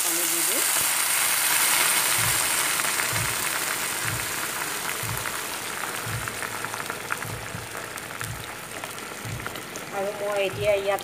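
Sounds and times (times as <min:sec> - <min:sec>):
frying crackling and bubbling: 0:00.0 - 0:11.0
water poured into hot oil: 0:00.0 - 0:11.0.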